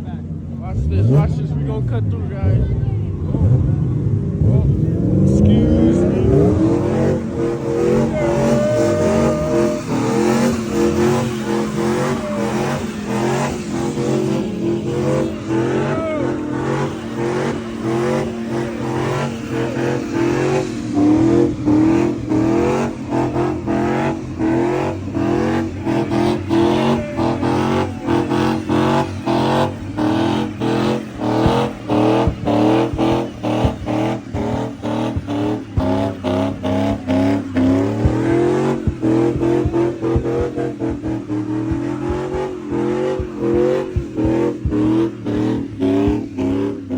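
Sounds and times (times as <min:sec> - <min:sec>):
car engine revving: 0:00.0 - 0:46.9
tyres squealing: 0:06.3 - 0:46.9.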